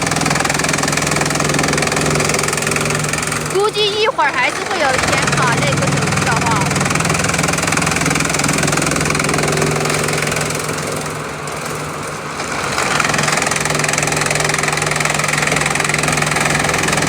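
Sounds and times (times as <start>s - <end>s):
bamboo chipping machine running: 0.0s - 17.0s.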